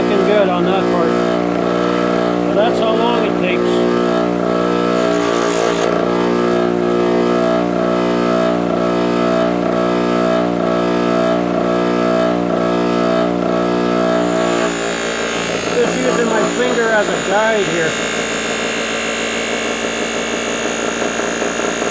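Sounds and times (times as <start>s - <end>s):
sanding machine motor humming: 0.0s - 21.9s.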